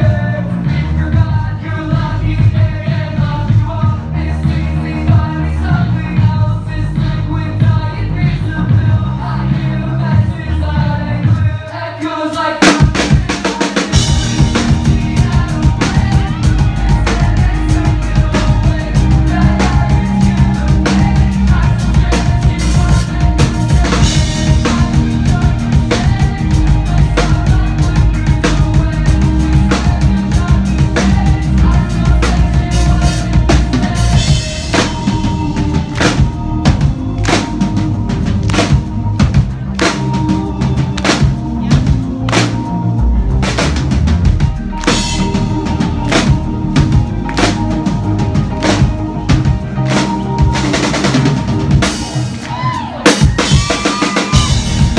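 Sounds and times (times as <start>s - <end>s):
live band playing: 0.0s - 54.9s.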